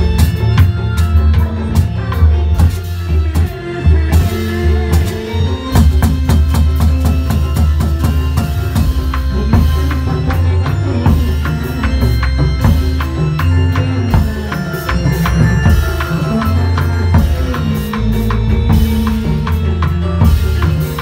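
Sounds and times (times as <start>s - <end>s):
drum kit beat: 0.0s - 21.0s
live band music: 0.0s - 21.0s.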